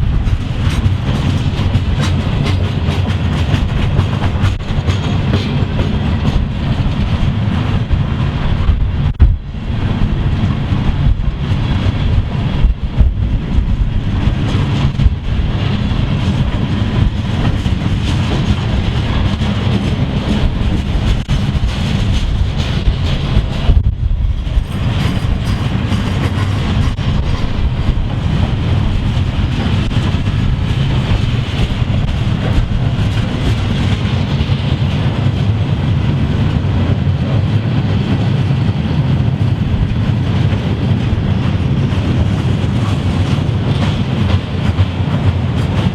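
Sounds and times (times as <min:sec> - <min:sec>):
wheels clicking over rail joints: 0:00.0 - 0:09.4, 0:10.0 - 0:45.9
train rumbling on rails: 0:00.0 - 0:45.9.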